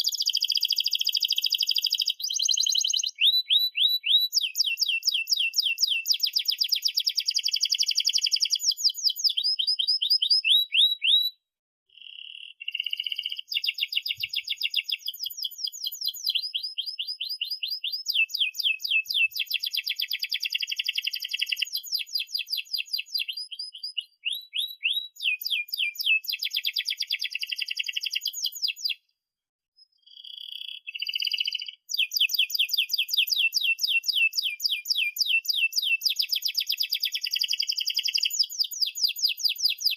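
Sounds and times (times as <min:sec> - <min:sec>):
canary singing trills: 0:00.0 - 0:29.1, 0:29.8 - 0:39.9.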